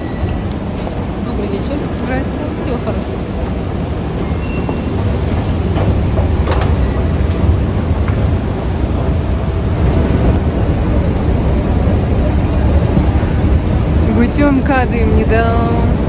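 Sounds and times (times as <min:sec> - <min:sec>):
escalator rumbling: 0:00.0 - 0:16.0.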